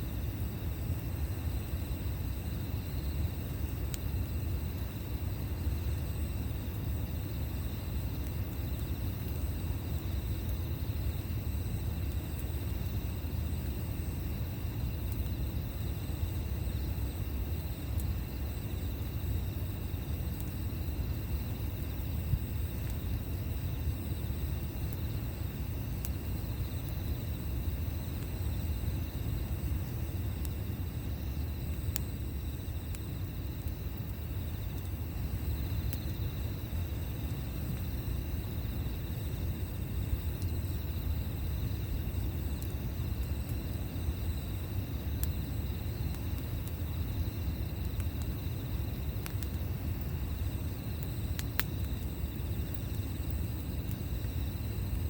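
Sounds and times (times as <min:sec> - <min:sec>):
campfire burning and crackling: 0:00.0 - 0:55.0
insects chirping: 0:00.0 - 0:55.0.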